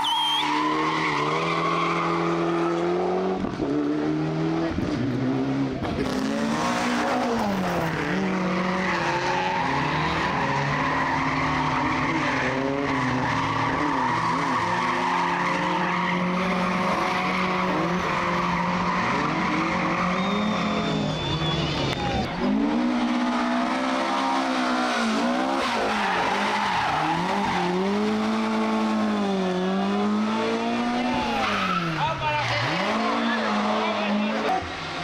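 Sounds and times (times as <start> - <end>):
tyres skidding: 0.0 - 35.0
rally car engine revving: 0.4 - 35.0.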